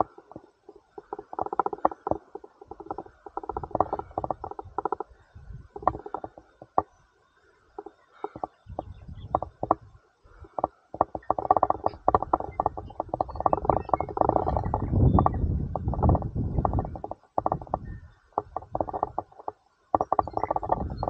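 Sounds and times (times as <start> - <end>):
wind buffeting microphone: 2.0 - 6.4, 7.8 - 21.0.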